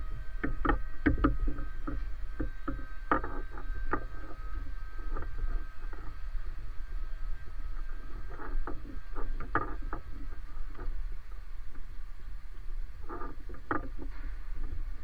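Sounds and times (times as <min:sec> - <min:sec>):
low hydraulic hum: 0:00.0 - 0:15.0
short creaks and clicks: 0:00.3 - 0:15.0.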